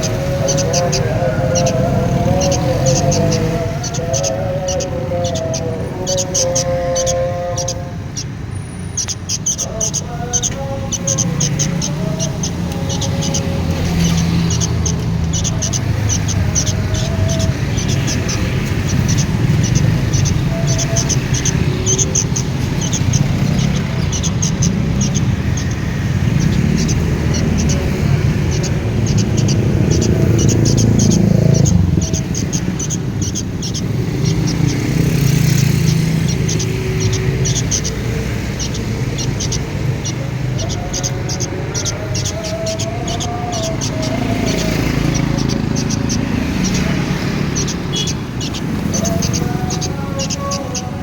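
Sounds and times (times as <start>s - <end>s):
bird chicks chirping: 0.0s - 51.0s.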